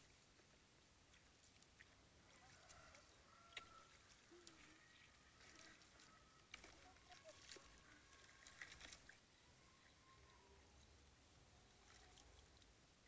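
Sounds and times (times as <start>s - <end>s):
feet wading through water: 0.0s - 13.0s.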